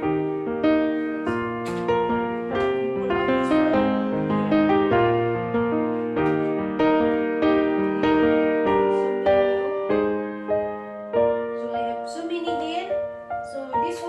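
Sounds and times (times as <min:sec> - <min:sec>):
slow keyboard melody: 0:00.0 - 0:14.0.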